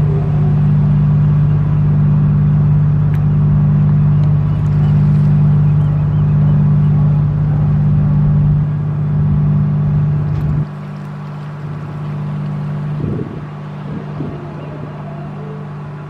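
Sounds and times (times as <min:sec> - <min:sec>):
motor engine humming: 0:00.0 - 0:16.0.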